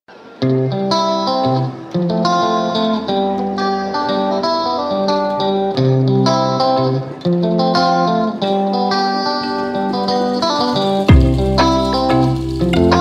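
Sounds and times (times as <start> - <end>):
plucked string melody: 0.1 - 13.0.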